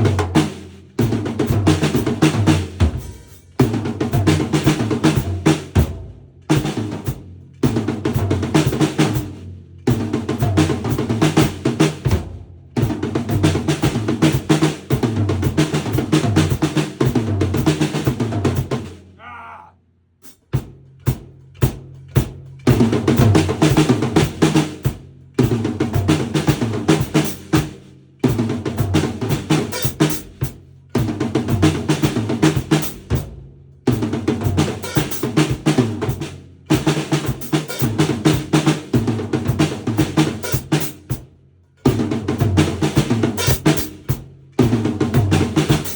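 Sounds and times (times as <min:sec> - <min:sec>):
drum kit playing: 0:00.0 - 0:19.0, 0:20.2 - 0:45.9.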